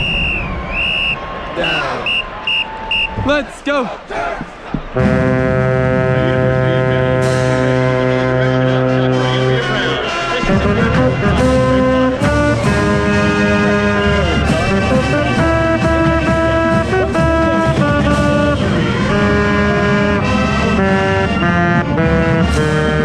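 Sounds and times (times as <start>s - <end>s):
marching band playing: 0.0s - 23.0s.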